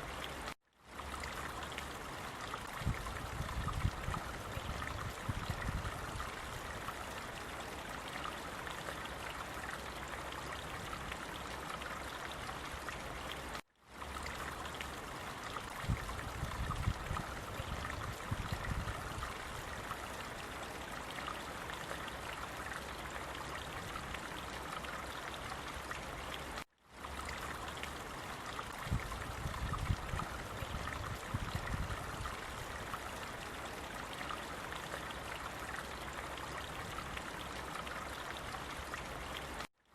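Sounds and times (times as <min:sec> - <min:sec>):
water flowing: 0:00.0 - 0:39.7.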